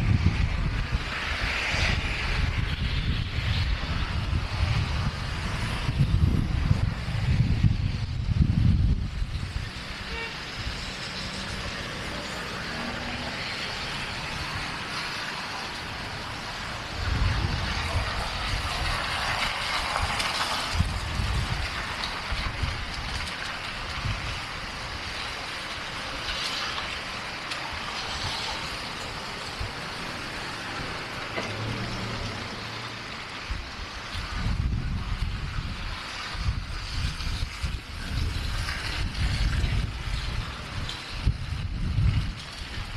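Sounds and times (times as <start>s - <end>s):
passing road traffic: 0.0s - 42.9s
wind buffeting microphone: 0.0s - 42.9s.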